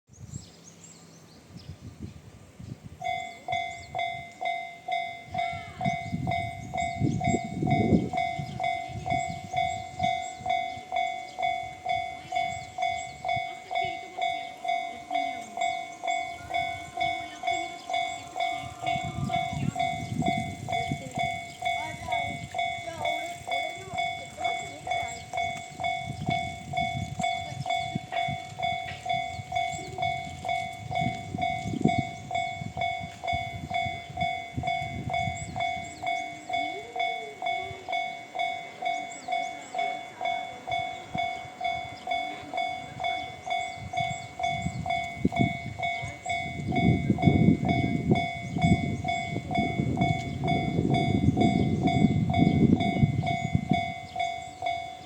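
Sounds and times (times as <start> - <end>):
train wheels rumbling on rail: 1.7 - 55.0
level crossing bell ringing: 3.0 - 55.0.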